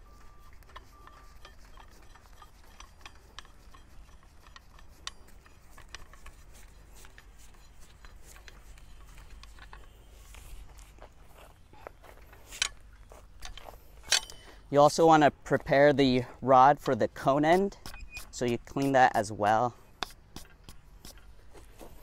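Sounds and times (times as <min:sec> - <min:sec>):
metallic clicks and rubbing: 0:00.0 - 0:11.3, 0:12.2 - 0:15.8, 0:16.6 - 0:22.0.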